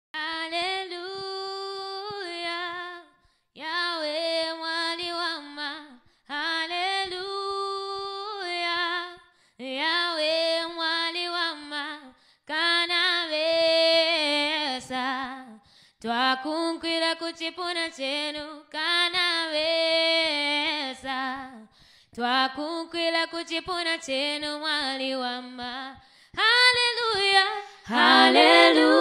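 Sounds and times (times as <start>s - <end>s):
women singing unaccompanied: 0.2s - 29.0s.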